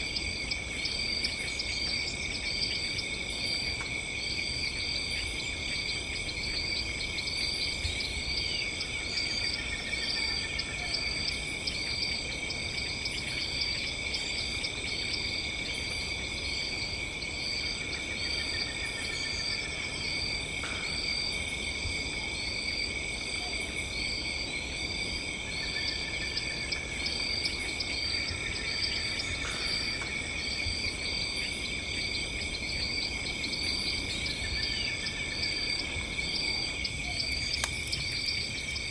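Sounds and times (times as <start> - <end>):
insect chirping rhythmically: 0.0 - 38.9
insects trilling: 0.0 - 38.9.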